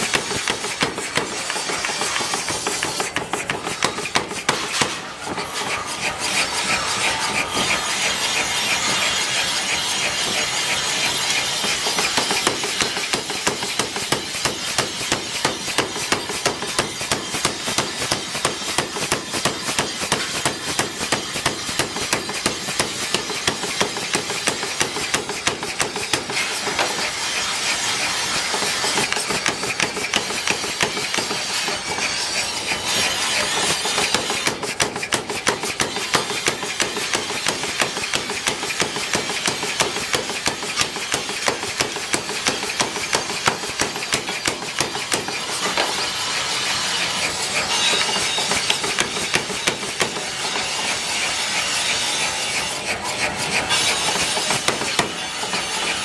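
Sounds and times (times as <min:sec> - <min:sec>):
power hammer striking steel: 0:00.0 - 0:56.0.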